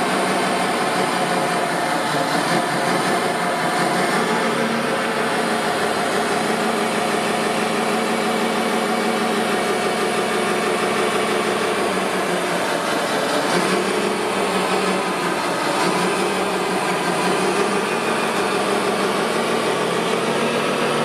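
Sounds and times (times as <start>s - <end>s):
remote-control vehicle motor drone: 0.0s - 21.0s.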